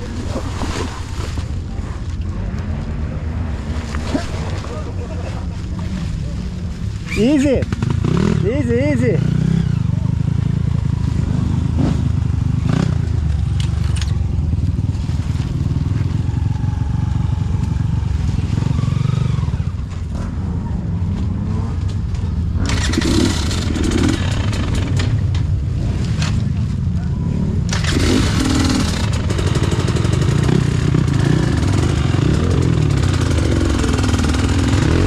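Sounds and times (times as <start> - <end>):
two-stroke dirt bike engine: 0.0 - 35.0.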